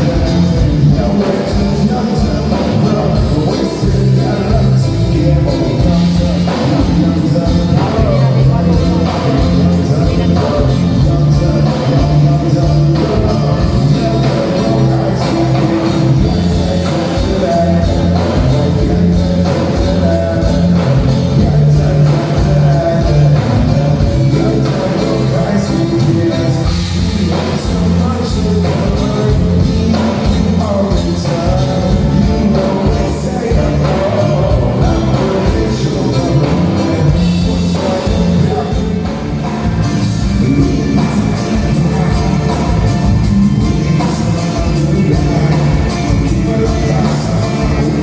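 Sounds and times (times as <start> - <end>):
live band playing: 0.0 - 48.0
person singing: 0.0 - 48.0.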